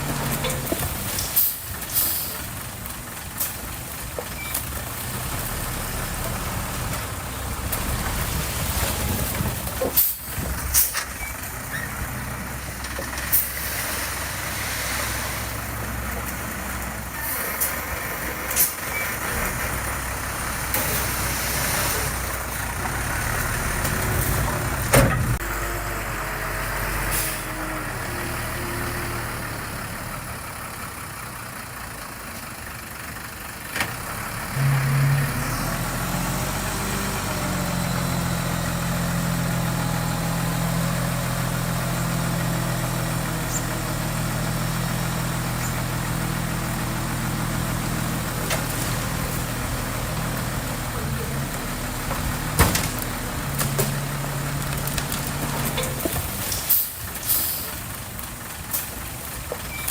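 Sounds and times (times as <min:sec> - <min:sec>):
heavy machinery diesel engine running: 0:00.0 - 0:59.9.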